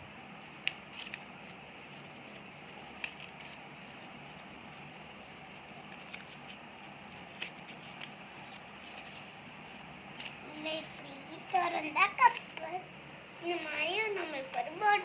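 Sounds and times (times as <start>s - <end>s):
paper being folded: 0.4s - 12.7s.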